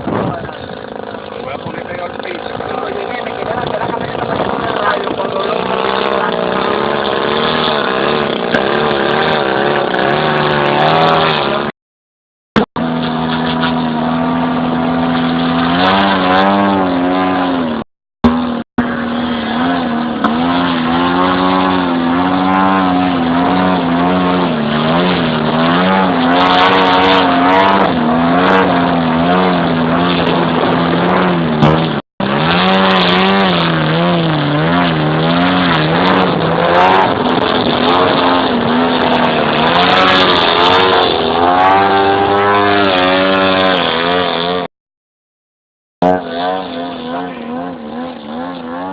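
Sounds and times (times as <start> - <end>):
model plane engine in flight: 0.0 - 11.7, 12.8 - 44.7, 46.0 - 48.9.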